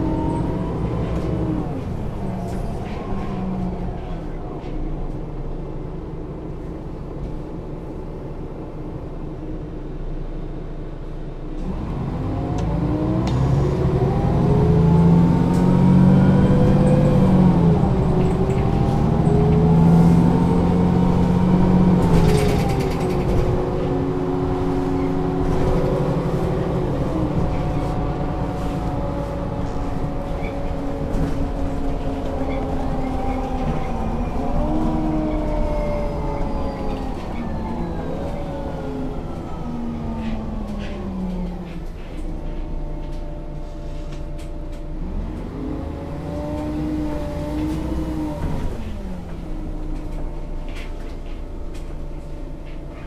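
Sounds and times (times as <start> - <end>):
bus diesel engine accelerating: 0.0 - 53.0.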